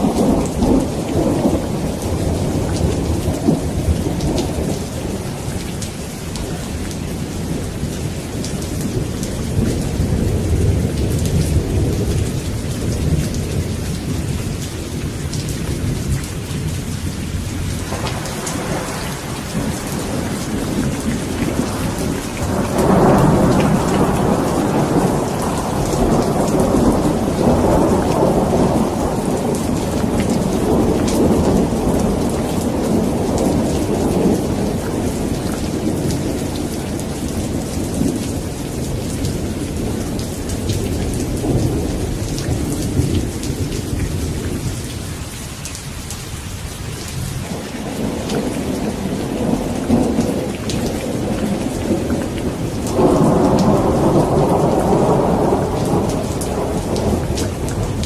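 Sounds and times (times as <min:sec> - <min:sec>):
thunder rumbling: 0:00.0 - 0:45.4, 0:46.6 - 0:58.0
steady rain: 0:00.0 - 0:58.0.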